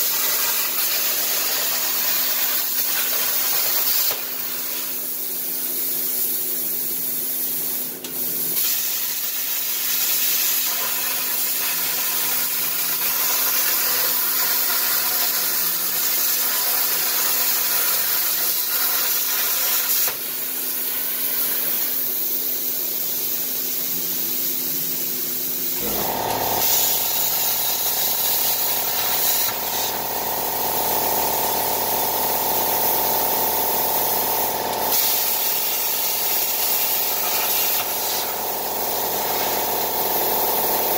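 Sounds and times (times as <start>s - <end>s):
plasma torch hissing: 0.0s - 40.9s.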